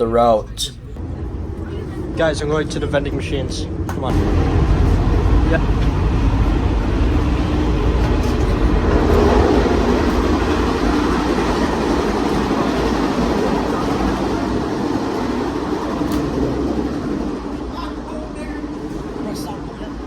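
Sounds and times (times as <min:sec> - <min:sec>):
train rumble from inside: 0:00.0 - 0:20.0.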